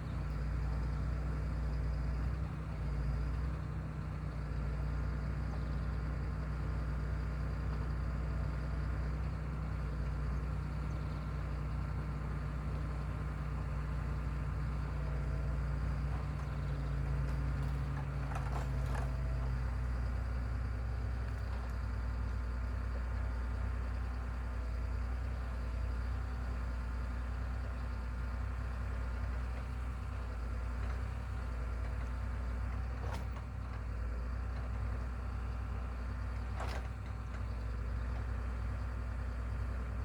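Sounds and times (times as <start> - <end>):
heavy machine engine running: 0.0 - 40.0.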